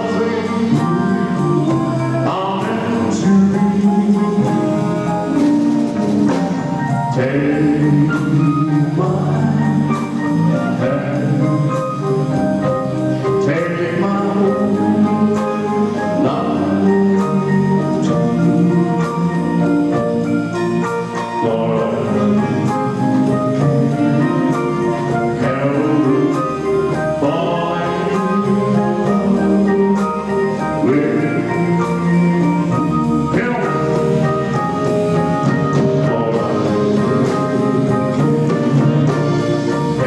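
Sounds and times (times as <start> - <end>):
live rock and roll band: 0.0 - 40.0
steady drum beat: 0.0 - 40.0.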